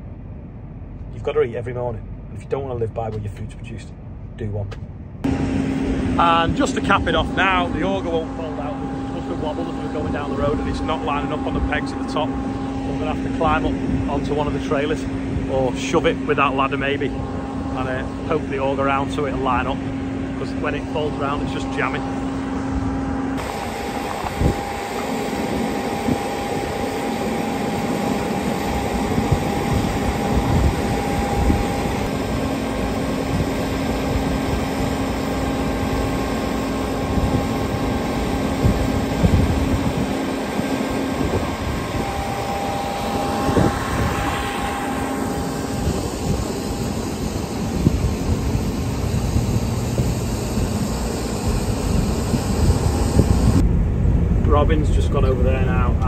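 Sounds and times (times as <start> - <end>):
engine whine: 0.0 - 56.0
harvester engine droning: 0.0 - 56.0.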